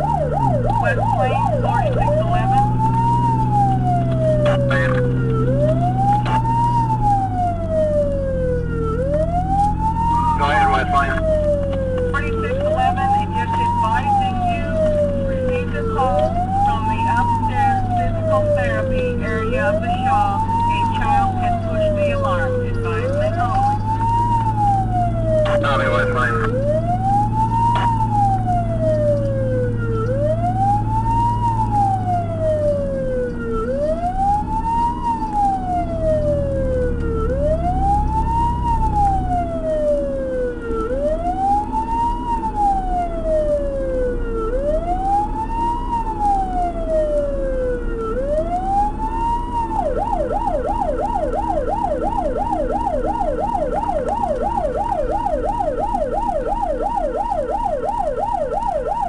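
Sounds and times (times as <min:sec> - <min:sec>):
fire truck siren wailing: 0:00.0 - 0:59.0
low engine rumble: 0:00.0 - 0:59.0.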